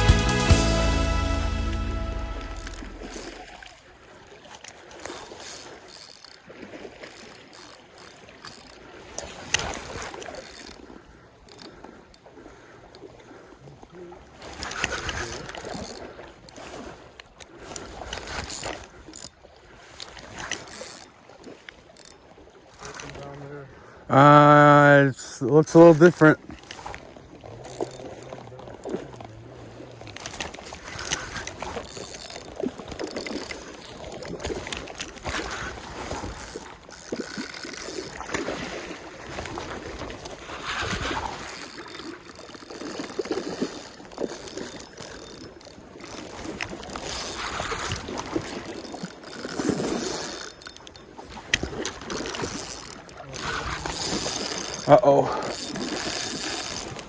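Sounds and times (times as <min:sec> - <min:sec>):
stream water sloshing and splashing: 0:00.0 - 0:57.0.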